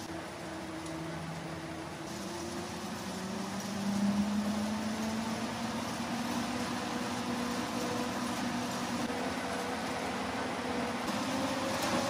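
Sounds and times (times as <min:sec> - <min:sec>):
treadmill belt hiss: 0:00.0 - 0:12.0.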